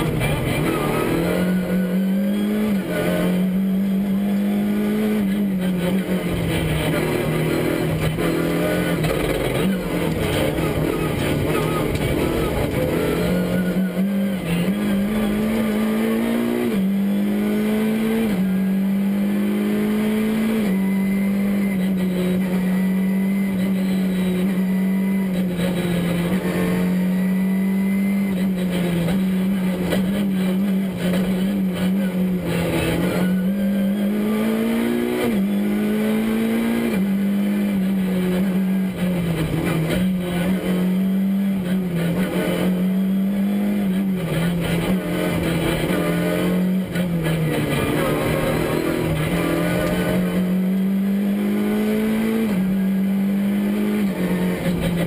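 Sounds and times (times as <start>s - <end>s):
rally car engine revving: 0.0s - 55.0s
road and tyre noise: 0.0s - 55.0s.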